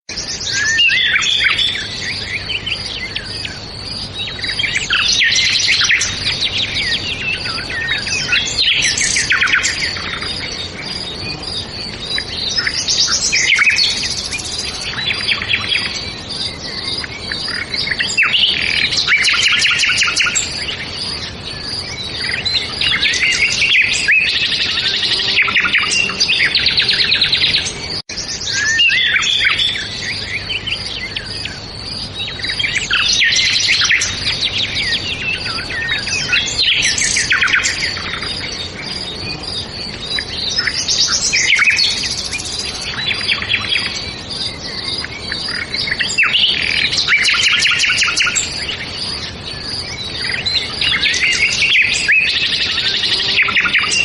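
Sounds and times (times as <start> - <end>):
songbirds chirping and trilling: 0.1 - 54.0.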